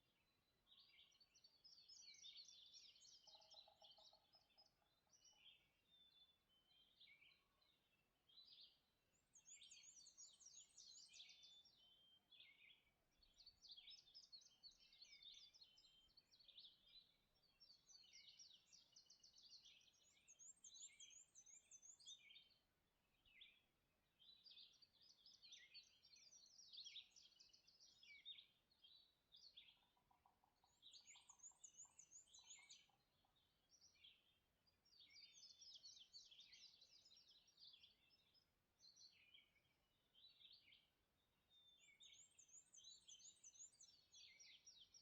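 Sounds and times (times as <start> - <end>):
songbirds chorus: 0.0 - 45.0.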